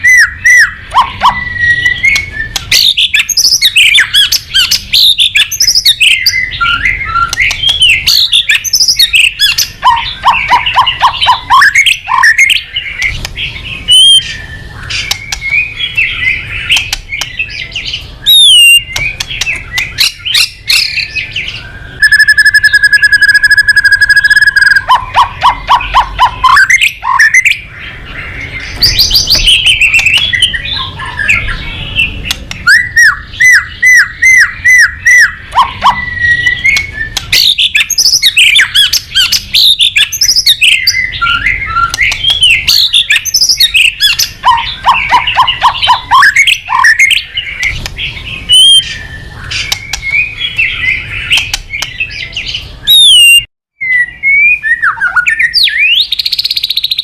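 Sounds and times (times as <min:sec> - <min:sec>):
songbird singing varied song: 0:00.0 - 0:57.0.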